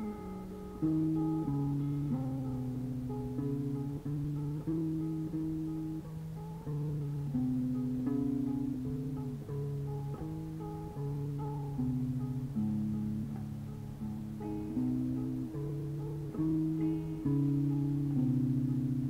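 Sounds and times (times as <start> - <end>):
guitar playing held notes: 0.0 - 19.0.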